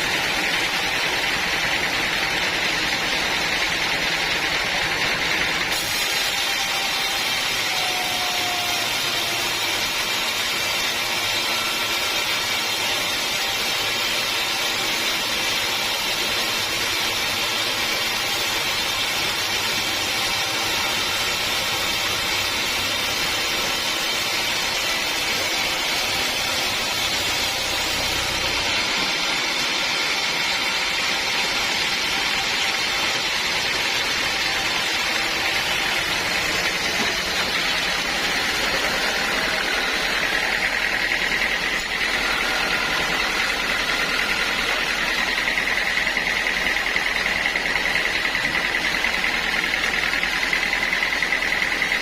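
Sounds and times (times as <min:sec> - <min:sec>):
sawmill saw whine: 0:00.0 - 0:52.0.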